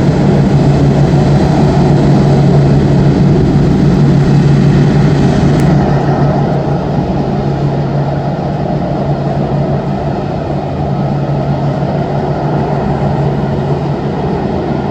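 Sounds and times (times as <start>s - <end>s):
jet engines idling: 0.0s - 14.9s.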